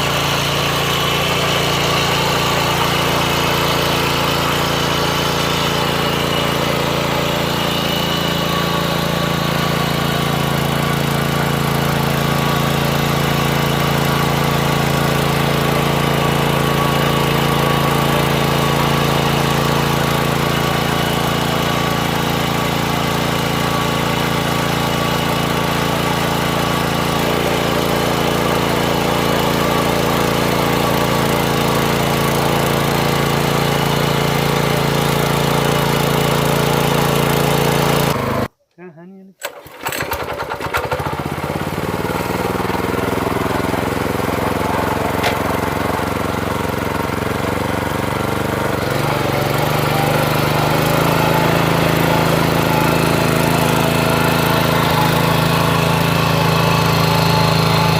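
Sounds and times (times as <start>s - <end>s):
tiller engine running: 0.0s - 38.5s, 39.4s - 57.9s.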